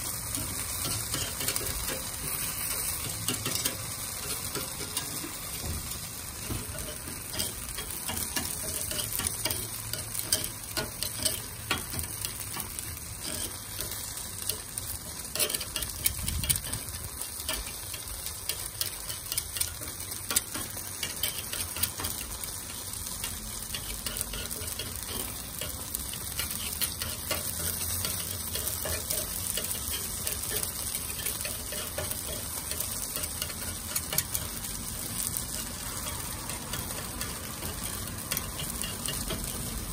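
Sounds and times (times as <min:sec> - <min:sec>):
batter sizzling: 0:00.0 - 0:39.9.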